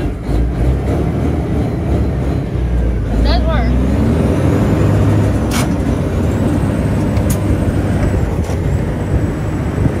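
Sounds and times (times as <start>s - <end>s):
diesel truck engine under load: 0.0s - 10.0s.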